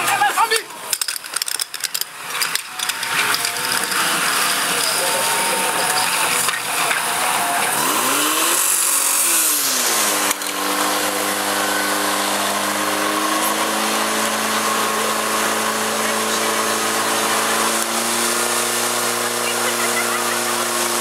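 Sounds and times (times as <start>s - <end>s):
fire pump engine revving: 0.8s - 21.0s.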